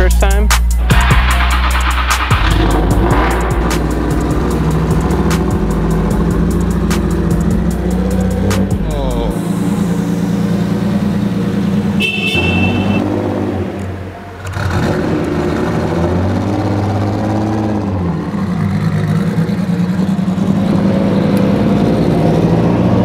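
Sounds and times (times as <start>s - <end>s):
car engine revving: 0.5s - 23.0s.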